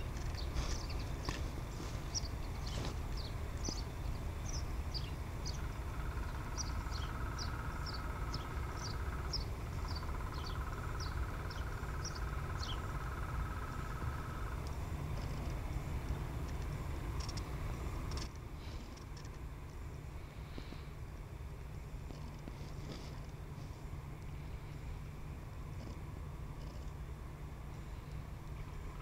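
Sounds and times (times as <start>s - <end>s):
low steady rumble: 0.0s - 29.0s
small birds chirping: 0.0s - 29.0s.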